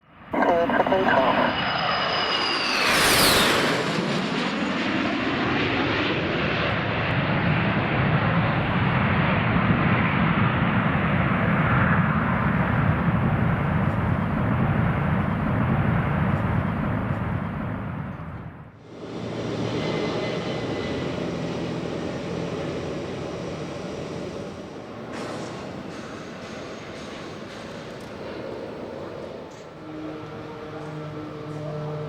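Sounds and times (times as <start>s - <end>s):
jet engines roaring: 0.2s - 32.0s.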